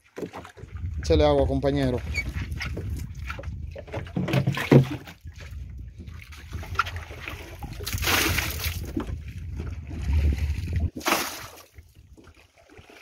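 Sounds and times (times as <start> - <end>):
low rumble of wind and water: 0.0 - 13.0
water splashing onto boat deck: 0.0 - 13.0.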